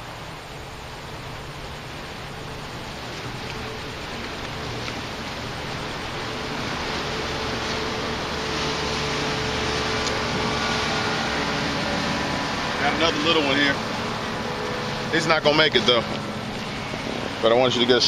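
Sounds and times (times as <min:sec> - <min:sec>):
motorboat rushing noise: 0:00.0 - 0:18.0.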